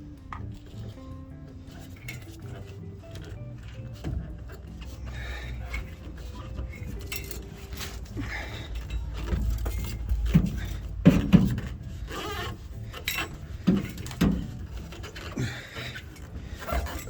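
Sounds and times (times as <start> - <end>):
rubber hose rubbing: 0.0 - 17.0
metal clinks and knocks: 0.2 - 17.0.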